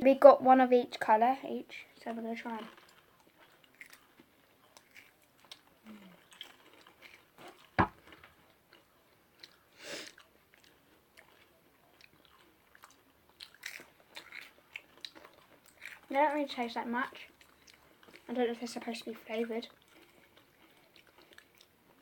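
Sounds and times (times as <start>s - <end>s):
people crunching crackers: 2.3s - 22.0s.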